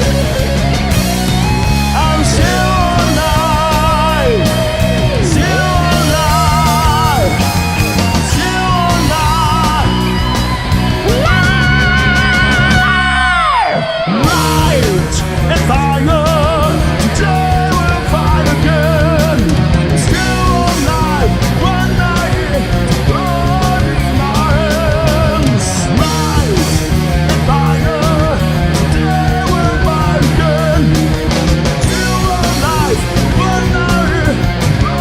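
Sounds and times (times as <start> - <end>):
melodic guitar lead line: 0.0 - 35.0
rock band playing live: 0.0 - 35.0.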